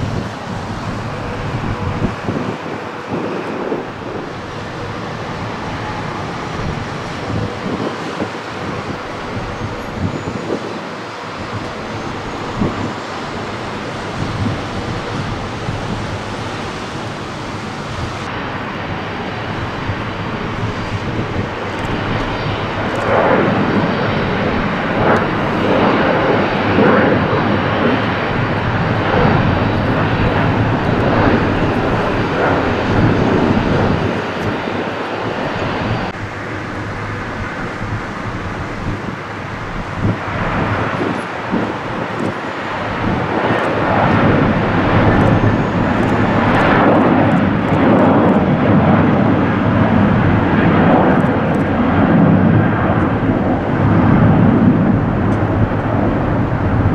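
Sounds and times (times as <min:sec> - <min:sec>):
jet engines roaring at takeoff: 0:00.0 - 0:56.9.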